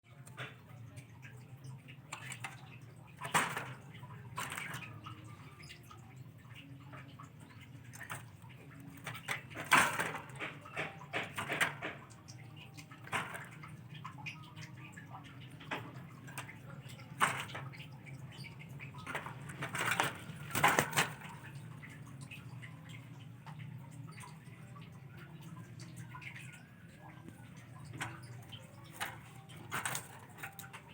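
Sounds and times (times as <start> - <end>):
water splashing: 0.1 - 30.9.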